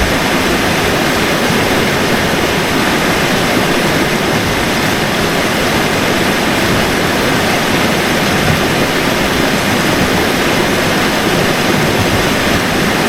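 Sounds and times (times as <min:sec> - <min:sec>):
steady loud rushing noise: 0:00.0 - 0:13.0.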